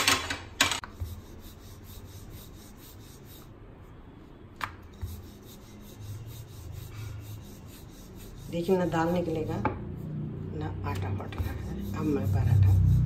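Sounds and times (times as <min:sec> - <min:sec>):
rolling pin rubbing on dough: 0:00.8 - 0:13.0.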